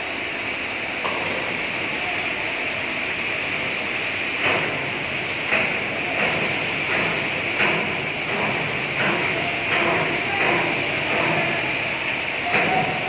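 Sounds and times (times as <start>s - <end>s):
overhead crane machinery: 0.0s - 13.0s.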